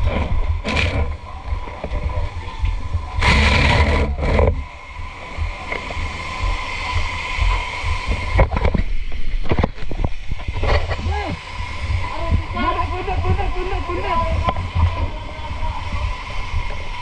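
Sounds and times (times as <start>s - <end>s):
water rushing from fire hose: 0.0s - 17.0s.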